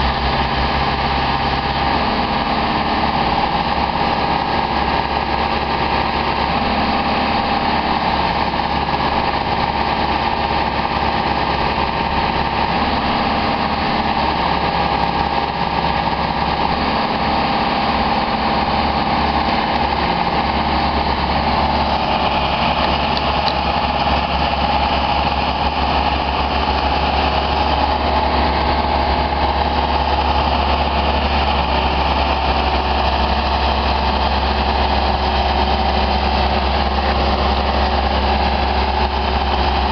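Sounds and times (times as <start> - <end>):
boom lift engine running: 0.0 - 39.9
constant whine: 0.0 - 39.9.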